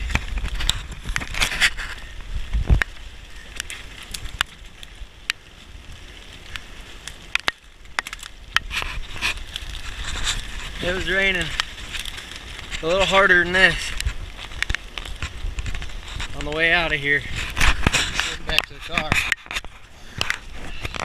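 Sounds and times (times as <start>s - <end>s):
footsteps crunching through leaves: 0.0s - 21.0s.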